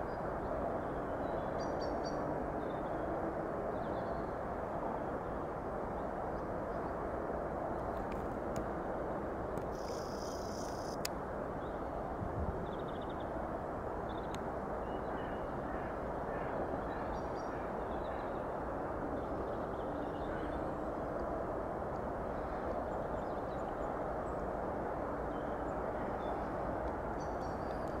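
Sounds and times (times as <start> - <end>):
low rushing background noise: 0.0 - 28.0.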